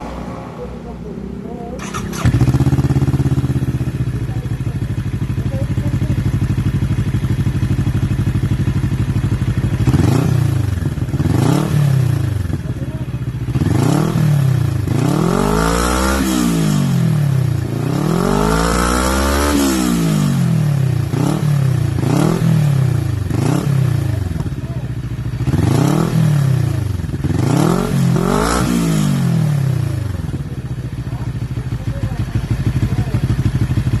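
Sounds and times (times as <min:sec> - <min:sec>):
motorcycle engine revving: 0:00.0 - 0:34.0
motorcycle engine idling: 0:00.6 - 0:34.0.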